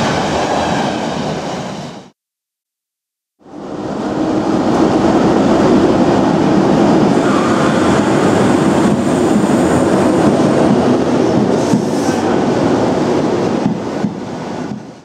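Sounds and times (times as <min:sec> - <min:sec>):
train passing with wheel and rail noise: 0:00.0 - 0:02.2, 0:03.4 - 0:15.0.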